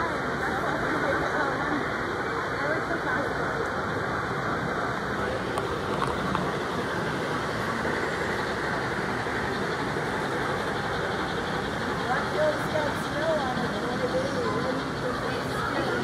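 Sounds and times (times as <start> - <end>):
model trains running: 0.0 - 16.0.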